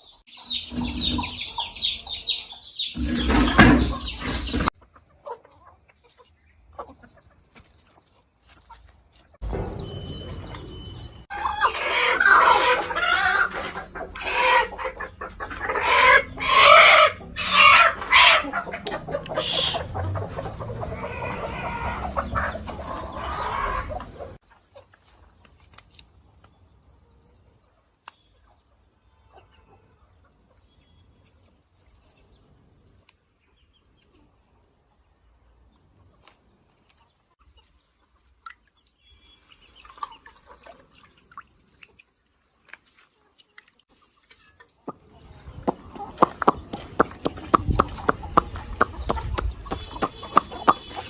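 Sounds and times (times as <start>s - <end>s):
chickens clucking: 0.0s - 10.7s, 11.3s - 51.0s.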